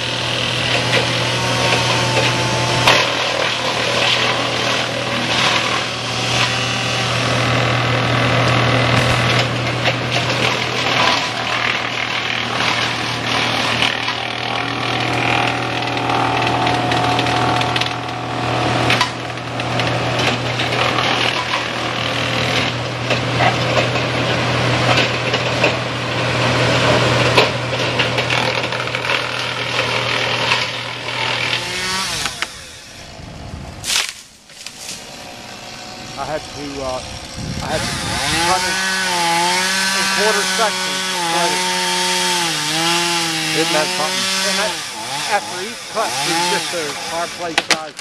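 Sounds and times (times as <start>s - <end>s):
chainsaw cutting log: 0.0s - 48.0s.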